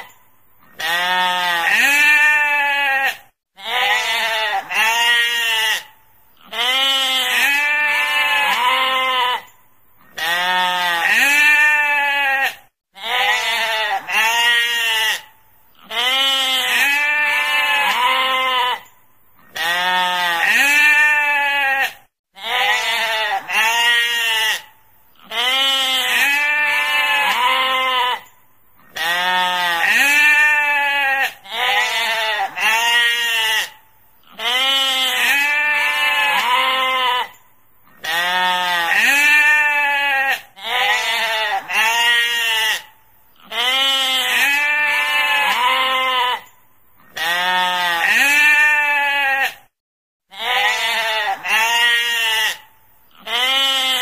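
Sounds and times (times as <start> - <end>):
sheep bleating: 0.6 - 49.7, 50.3 - 54.0.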